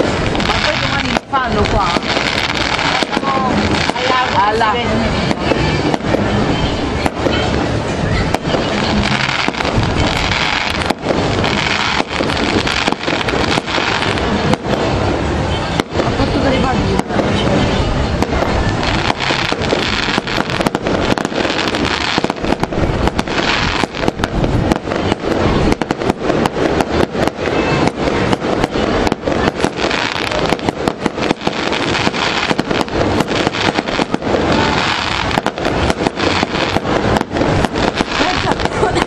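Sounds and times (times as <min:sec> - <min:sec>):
loud dense crackling: 0:00.0 - 0:39.0.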